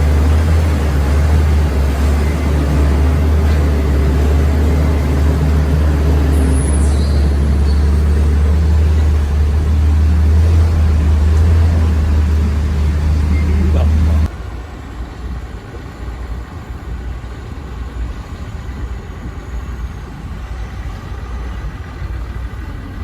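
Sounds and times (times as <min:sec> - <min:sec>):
heavy diesel engine droning: 0:00.0 - 0:23.0.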